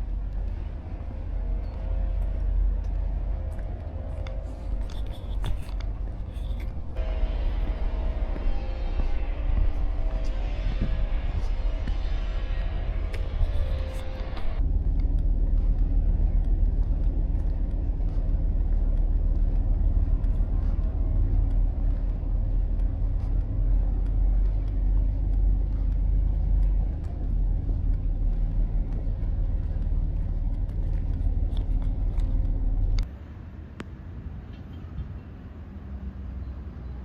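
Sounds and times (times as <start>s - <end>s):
large engine running: 0.0s - 33.1s.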